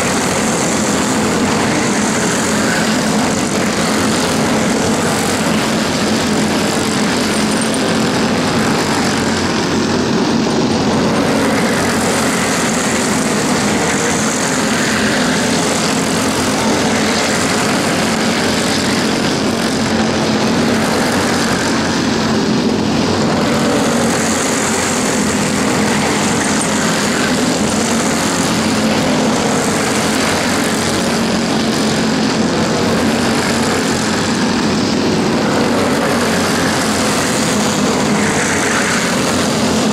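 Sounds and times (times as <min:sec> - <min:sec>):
go-kart engines buzzing: 0:00.0 - 0:39.9.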